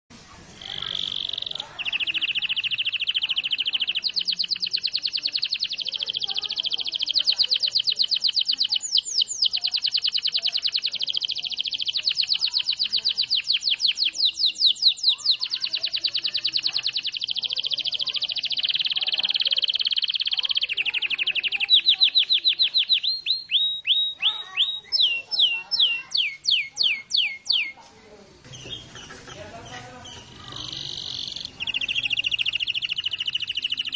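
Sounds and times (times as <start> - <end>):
canary trilling: 0.5 - 27.8, 28.4 - 33.9.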